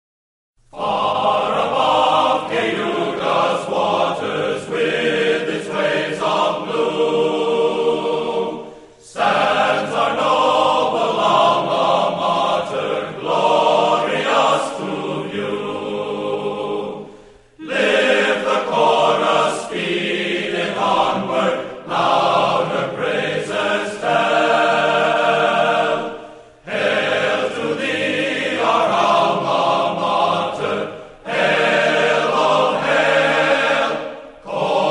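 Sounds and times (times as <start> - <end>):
choir singing slow song: 0.6 - 34.9.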